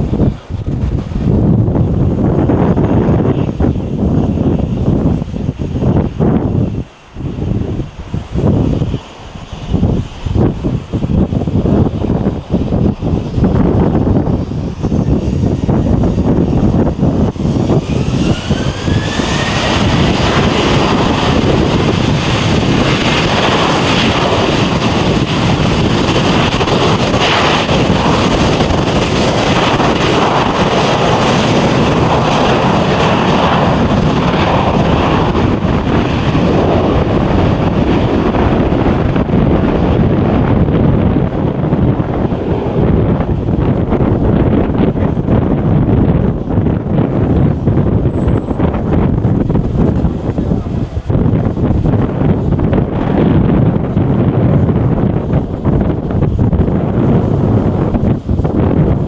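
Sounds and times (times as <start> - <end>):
jet engines whining and roaring: 0.0 - 59.0.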